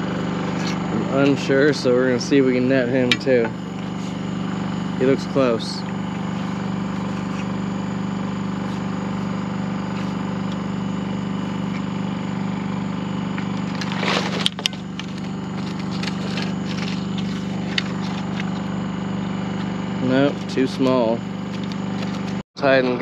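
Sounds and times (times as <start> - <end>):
portable generator running: 0.0 - 23.0.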